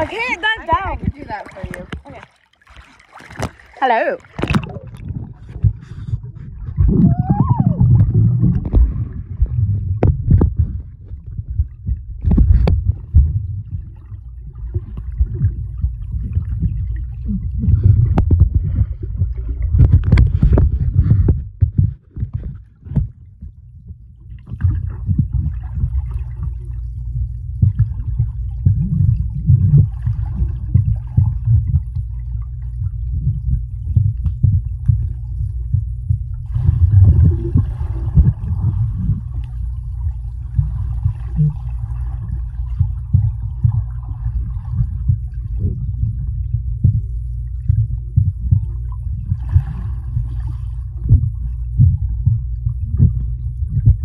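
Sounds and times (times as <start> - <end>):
underwater bubbling: 0.0 - 54.0
underwater churning water rumble: 0.0 - 54.0.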